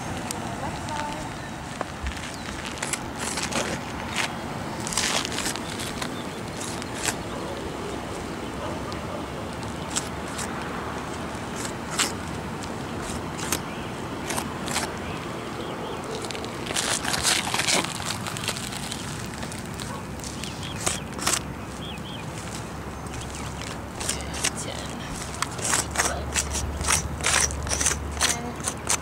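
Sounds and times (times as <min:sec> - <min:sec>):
steady background hiss: 0:00.0 - 0:28.6
scuffs and scrapes on shingle roof: 0:00.6 - 0:15.2, 0:15.9 - 0:29.0.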